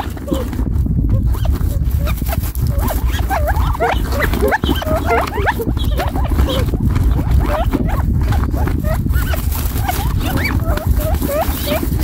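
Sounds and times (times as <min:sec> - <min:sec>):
quail calling softly: 0:01.3 - 0:12.0.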